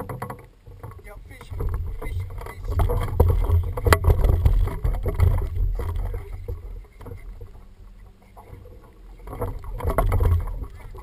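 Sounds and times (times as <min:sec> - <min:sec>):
boat knocks and rattles: 0:00.0 - 0:11.0
low rumble: 0:01.0 - 0:11.0.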